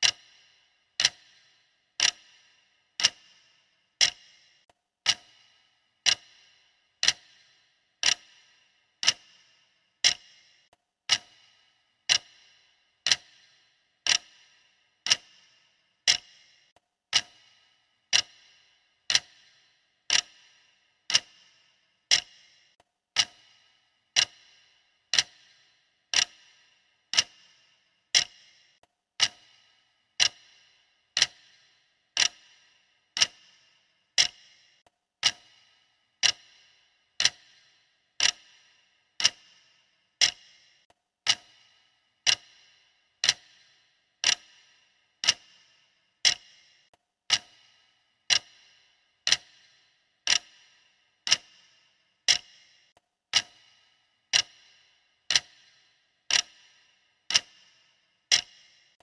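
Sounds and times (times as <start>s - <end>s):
clock-style timer ticking: 0.0s - 59.0s.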